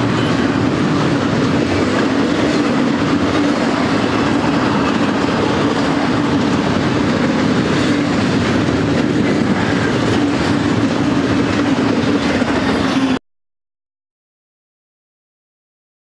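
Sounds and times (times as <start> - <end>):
train wheels clattering on rail: 0.0 - 13.2.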